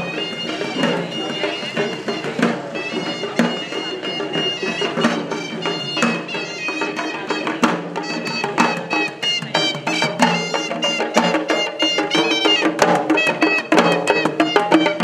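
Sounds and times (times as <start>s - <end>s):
drum strokes: 0.0s - 15.0s
shrill reed pipe melody: 0.0s - 15.0s.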